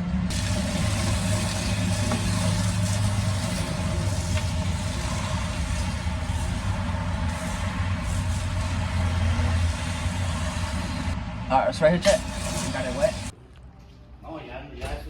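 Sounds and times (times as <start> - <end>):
steady hiss: 0.3 - 11.2, 12.0 - 13.3
engine idling: 0.3 - 13.3.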